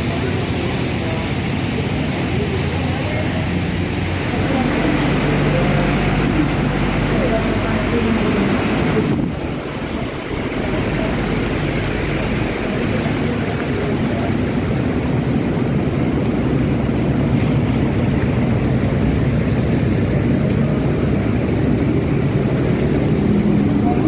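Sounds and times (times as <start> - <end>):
low rumble with hiss: 0.0 - 24.0.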